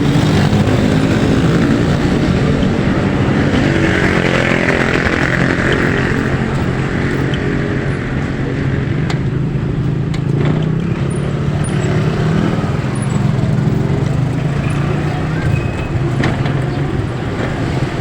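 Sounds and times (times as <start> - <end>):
tyre noise: 0.0 - 18.0
vehicle engine running: 0.0 - 18.0.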